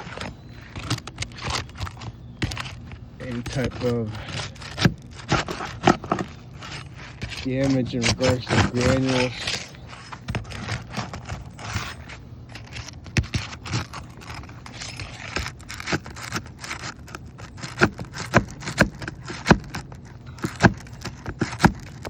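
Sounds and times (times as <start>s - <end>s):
roof shingles scraping and cracking: 0.0s - 22.0s.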